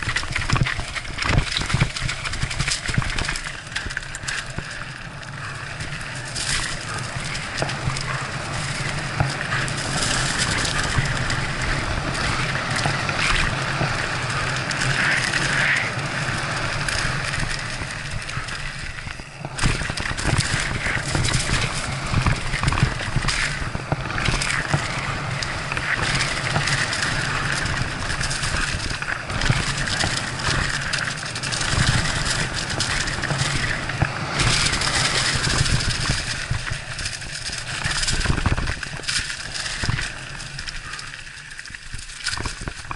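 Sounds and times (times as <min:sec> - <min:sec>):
bike rattling over bumps: 0:00.0 - 0:42.9
bike tyres on dirt trail: 0:00.0 - 0:42.9.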